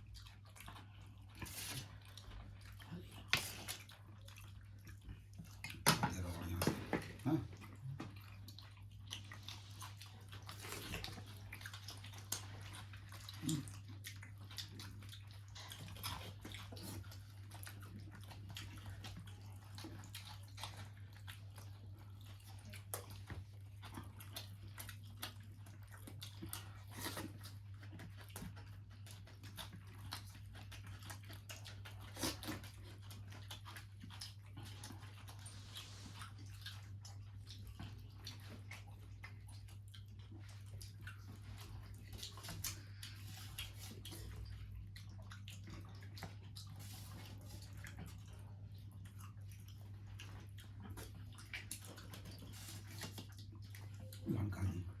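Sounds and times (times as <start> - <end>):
chewing food: 0.0 - 55.0.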